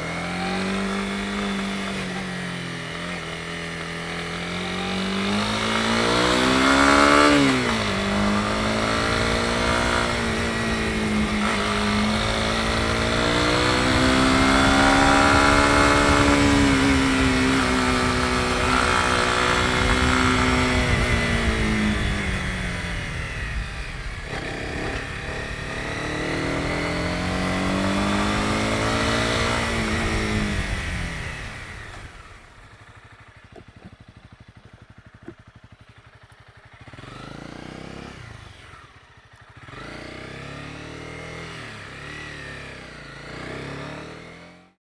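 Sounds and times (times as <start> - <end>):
motorcycle engine revving: 0.0 - 44.8.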